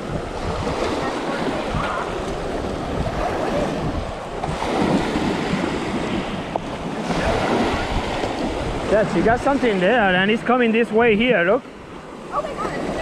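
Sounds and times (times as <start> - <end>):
small waves washing on sandy shore: 0.0 - 13.0
wind on microphone: 0.0 - 13.0.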